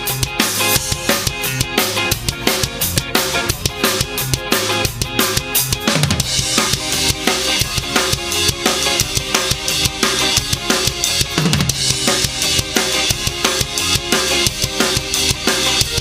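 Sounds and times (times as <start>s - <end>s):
drum kit playing: 0.0s - 16.0s
ska backing track: 0.0s - 16.0s.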